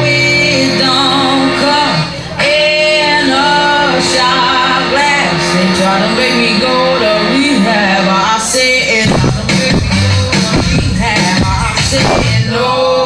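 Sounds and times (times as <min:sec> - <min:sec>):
loud pop music with singer: 0:00.0 - 0:13.0.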